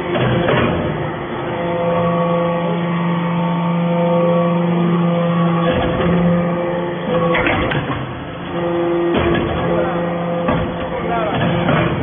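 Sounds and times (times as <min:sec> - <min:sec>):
hydraulic press humming: 0:00.0 - 0:12.0.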